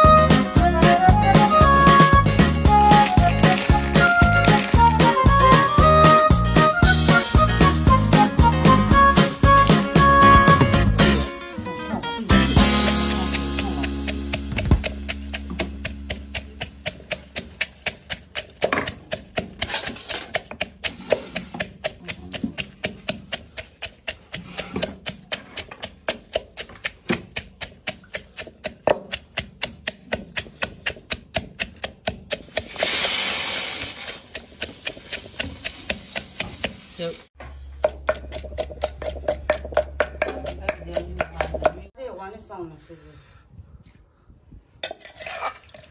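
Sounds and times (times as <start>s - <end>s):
pestle pounding in clay mortar: 0.0s - 11.2s, 12.4s - 37.0s, 37.7s - 41.9s.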